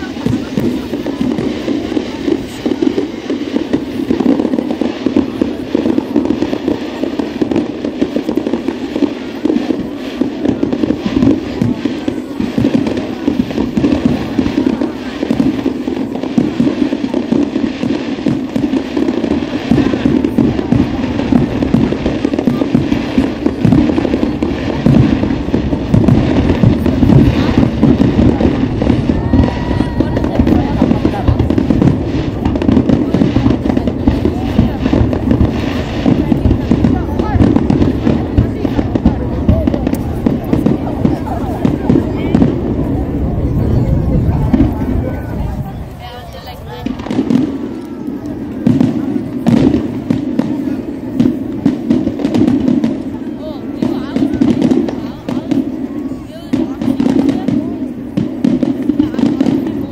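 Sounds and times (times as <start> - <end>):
fireworks bursts and crackling: 0.0 - 59.9.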